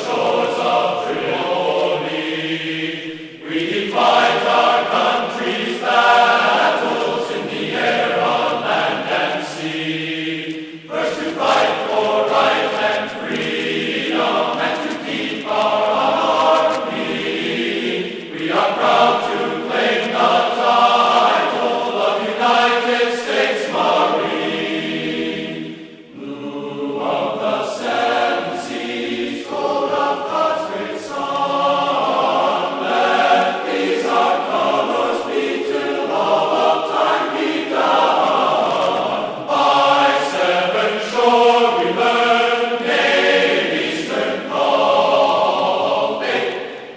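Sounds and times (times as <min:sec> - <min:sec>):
choir chanting: 0:00.0 - 0:46.9.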